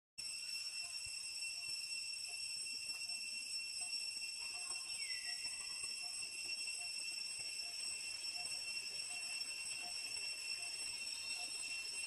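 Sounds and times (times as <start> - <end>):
high-pitched insect drone: 0.2 - 12.0.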